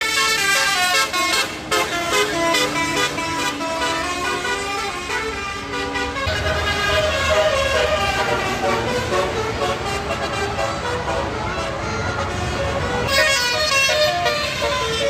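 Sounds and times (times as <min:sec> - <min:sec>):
bus horn playing melody: 0:00.0 - 0:15.0.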